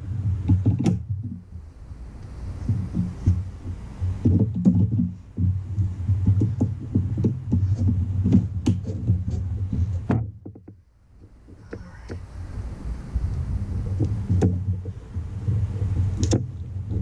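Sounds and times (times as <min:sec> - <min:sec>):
steady low hum: 0:00.0 - 0:17.0
rubber hose knocks and clicks: 0:00.2 - 0:01.5, 0:02.6 - 0:12.2, 0:13.9 - 0:17.0.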